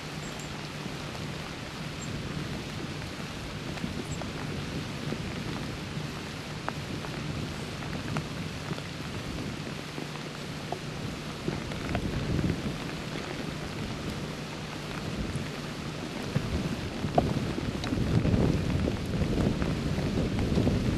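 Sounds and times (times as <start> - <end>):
freezing rain hissing: 0.0 - 20.9
low steady rumble: 0.0 - 20.9
ice ticking on branches and leaves: 2.5 - 20.8.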